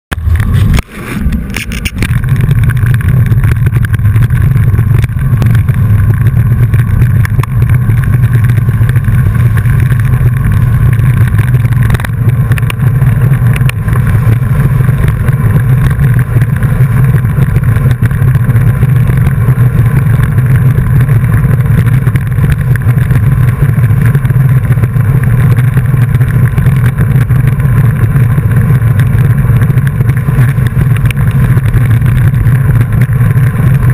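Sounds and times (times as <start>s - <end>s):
wind buffeting microphone: 0.1s - 33.9s.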